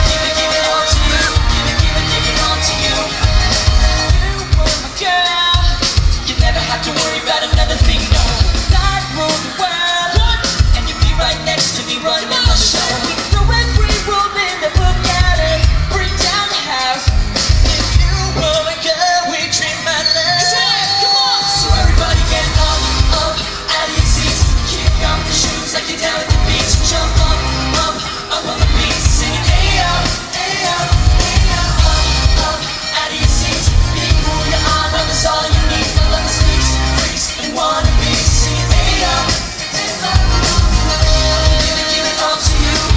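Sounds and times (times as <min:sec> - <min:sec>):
heavy pulsing bass beat: 0:00.0 - 0:09.2, 0:12.5 - 0:16.3, 0:17.1 - 0:18.5, 0:21.6 - 0:42.9
band and backing track: 0:00.0 - 0:42.9
male group vocals singing: 0:00.0 - 0:42.9.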